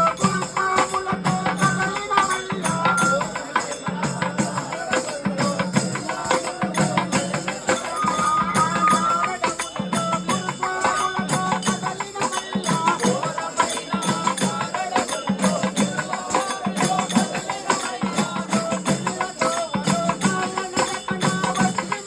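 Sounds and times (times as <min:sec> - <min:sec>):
jingling clicking percussion: 0:00.0 - 0:22.0
pulsing drum beat: 0:00.0 - 0:22.0
voices singing a melody: 0:00.0 - 0:22.0.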